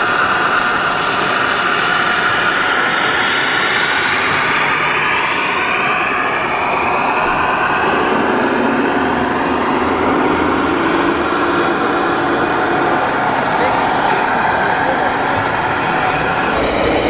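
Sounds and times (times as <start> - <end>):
mechanical whine: 0.7 - 17.0.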